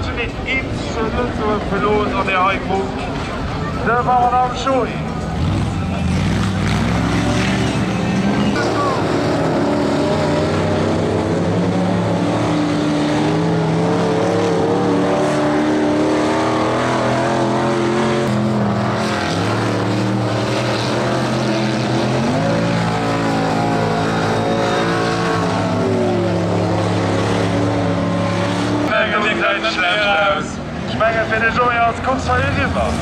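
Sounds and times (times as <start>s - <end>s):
combine harvester engines revving: 0.0s - 33.0s.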